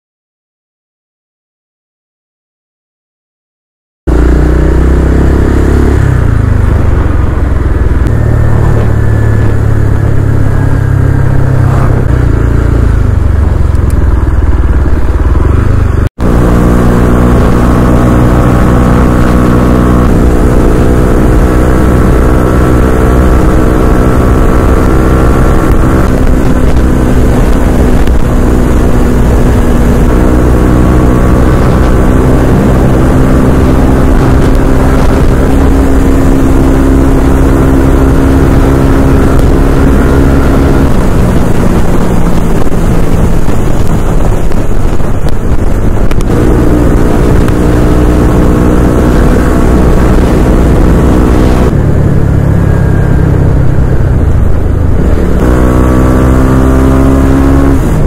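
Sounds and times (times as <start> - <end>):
vehicle engine running: 4.1 - 58.0.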